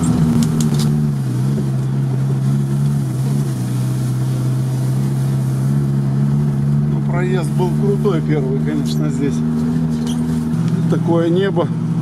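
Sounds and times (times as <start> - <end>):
vehicle engine drone from inside: 0.0 - 12.0.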